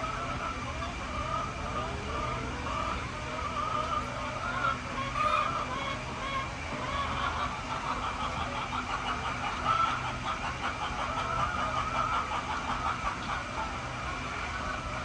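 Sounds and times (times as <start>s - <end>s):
hens chattering: 0.0s - 15.0s
low mechanical hum: 0.0s - 15.0s.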